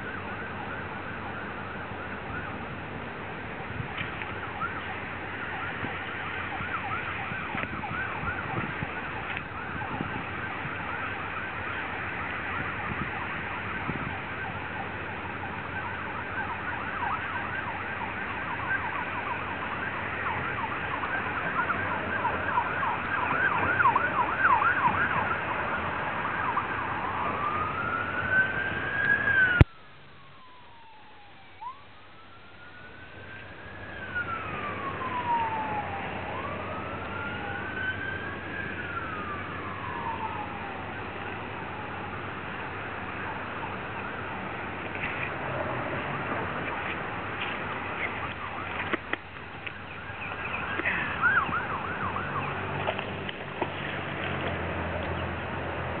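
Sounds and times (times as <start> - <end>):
emergency siren yelping and wailing: 0.0 - 56.0.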